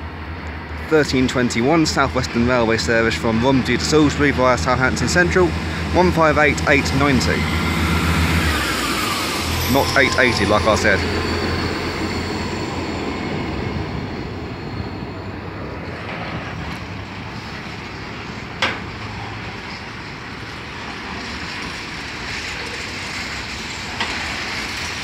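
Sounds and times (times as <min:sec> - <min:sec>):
diesel train pulling away: 0:00.0 - 0:25.0
freight wagons rolling on rails: 0:00.0 - 0:25.0.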